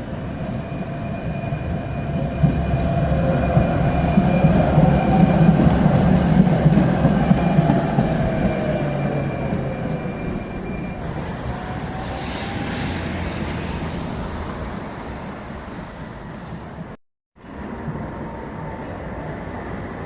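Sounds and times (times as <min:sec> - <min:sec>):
tram rumbling: 0:00.0 - 0:20.0.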